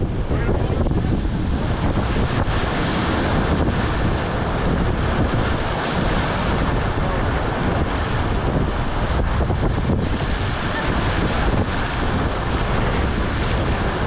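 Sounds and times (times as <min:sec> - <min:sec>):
whitewater rapids rushing: 0:00.0 - 0:14.0
wind buffeting microphone: 0:00.0 - 0:14.0.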